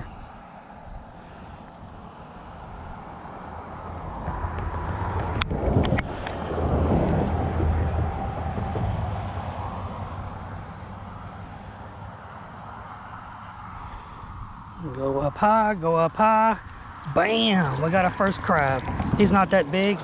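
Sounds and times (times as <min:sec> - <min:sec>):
vehicle passing by rumbling: 0:00.0 - 0:15.4, 0:16.6 - 0:20.0.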